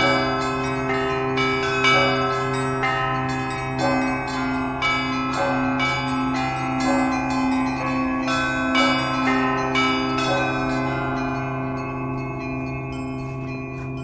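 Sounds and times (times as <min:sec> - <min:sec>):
church bells pealing: 0:00.0 - 0:14.0
low hum of large bells: 0:00.0 - 0:14.0.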